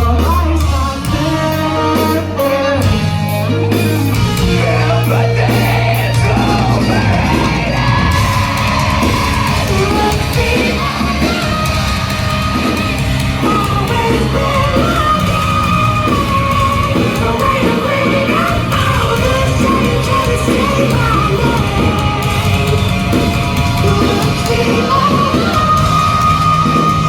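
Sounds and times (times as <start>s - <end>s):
live rock band: 0.0s - 27.0s
vocals sung and yelled: 0.0s - 27.0s.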